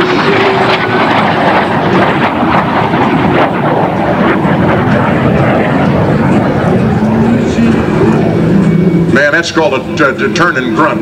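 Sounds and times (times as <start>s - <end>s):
jet fighter engine roar: 0.0s - 11.0s.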